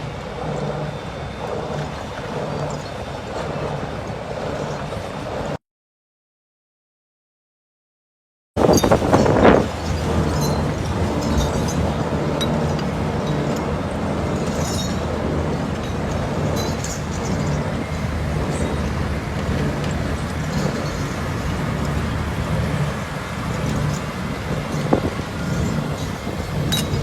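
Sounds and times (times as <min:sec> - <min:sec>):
excavator diesel engine droning: 0:00.0 - 0:05.6, 0:08.6 - 0:27.0.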